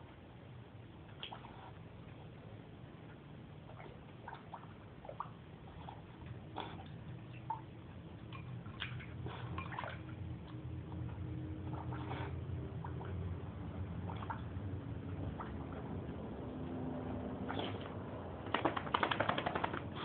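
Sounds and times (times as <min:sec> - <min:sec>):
low steady hum: 0:00.0 - 0:20.0
puppy splashing and bubbling water: 0:01.0 - 0:20.0.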